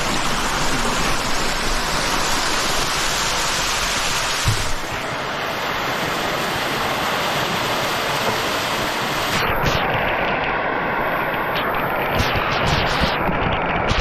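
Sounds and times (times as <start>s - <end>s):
water rushing in a stream: 0.0s - 14.0s.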